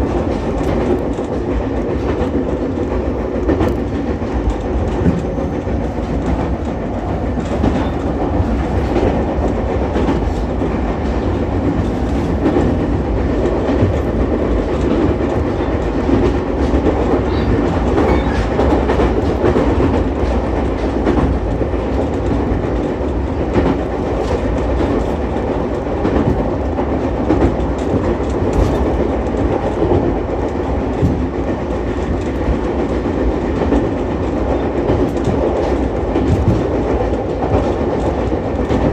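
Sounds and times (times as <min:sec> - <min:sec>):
rail joint clicks: 0:00.0 - 0:38.9
train wheels rumbling on rail: 0:00.0 - 0:38.9.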